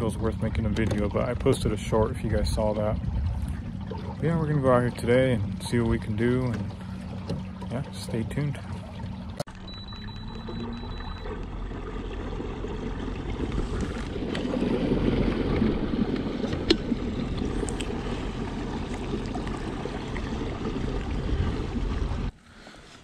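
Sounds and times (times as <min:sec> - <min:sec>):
water lapping against hull: 0:00.0 - 0:23.0.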